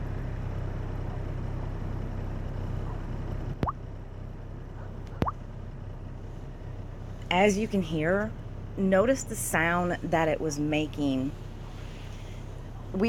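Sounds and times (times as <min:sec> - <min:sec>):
low droning engine hum: 0:00.0 - 0:13.0.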